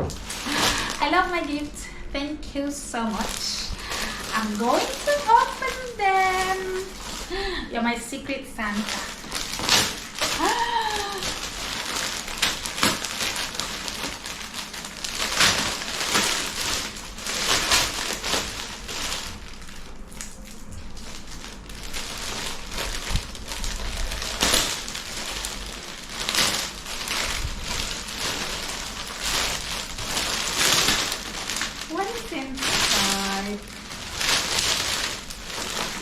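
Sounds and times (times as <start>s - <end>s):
gift packaging rustling: 0.0s - 2.0s, 3.0s - 36.0s.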